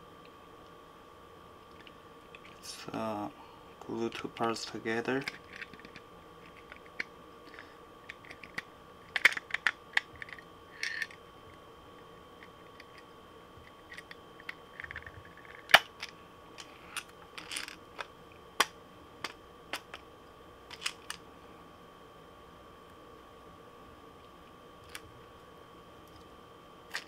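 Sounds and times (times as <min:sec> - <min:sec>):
faint high whine: 0:00.0 - 0:27.0.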